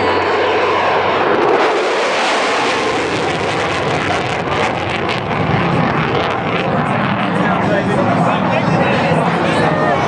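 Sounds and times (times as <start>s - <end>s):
jet engines flying overhead: 0.0s - 10.0s.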